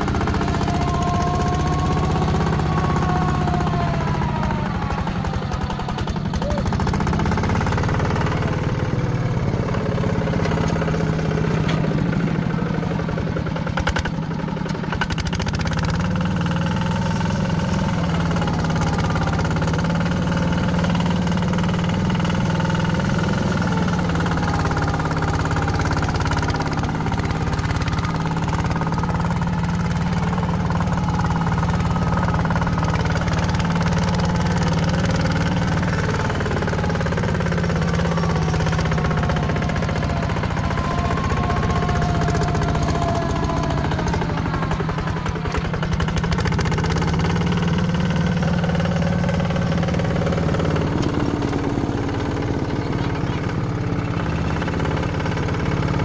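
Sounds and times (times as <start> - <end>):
heavy diesel engine running: 0.0 - 56.0
machinery clatter: 0.0 - 56.0.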